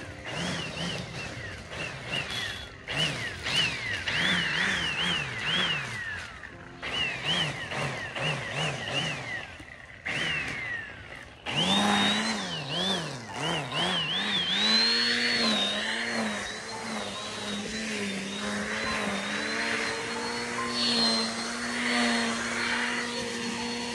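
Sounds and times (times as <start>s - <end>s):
string trimmer motor whining: 0.0s - 23.9s.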